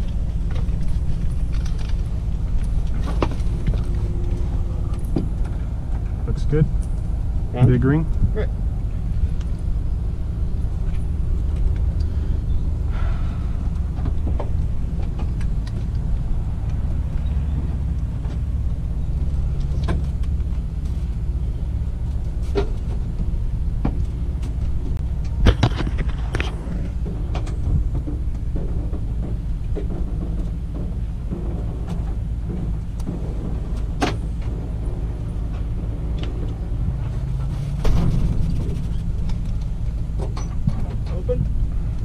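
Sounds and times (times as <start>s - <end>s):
light aircraft engine idling: 0.0s - 42.0s.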